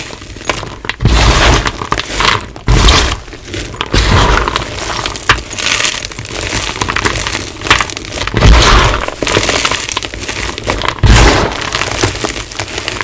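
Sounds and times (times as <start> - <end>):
chalk blocks crunching: 0.0 - 13.0
dull thuds: 1.0 - 9.8, 10.5 - 13.0.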